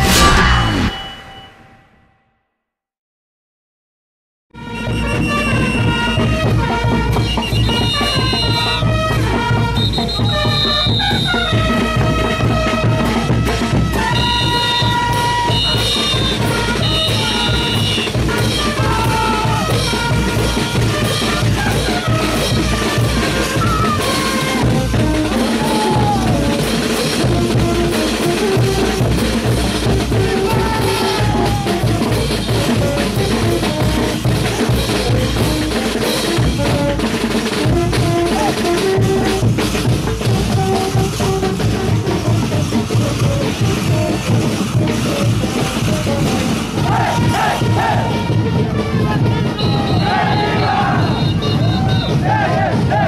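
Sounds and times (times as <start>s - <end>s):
band melody: 4.6s - 53.0s
steady drum beat: 5.3s - 53.0s.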